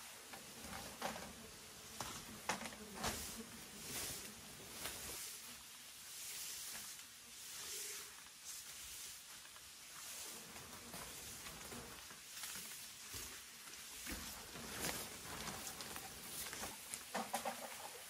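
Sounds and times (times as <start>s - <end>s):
faint rustling: 0.0s - 18.0s.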